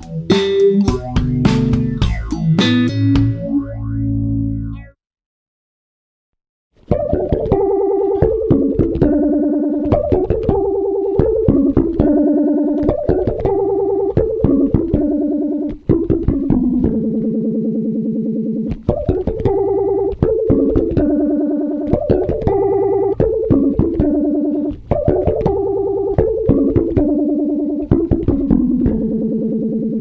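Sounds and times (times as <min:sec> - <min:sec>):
electric bass riff with phaser: 0:00.0 - 0:05.0, 0:06.9 - 0:30.0.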